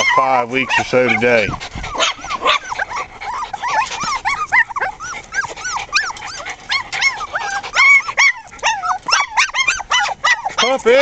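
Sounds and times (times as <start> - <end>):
puppies yipping and whimpering: 0.0 - 11.0.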